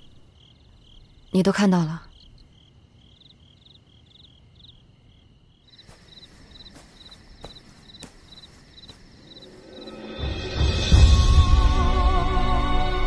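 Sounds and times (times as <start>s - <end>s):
crickets chirping: 0.0s - 11.4s.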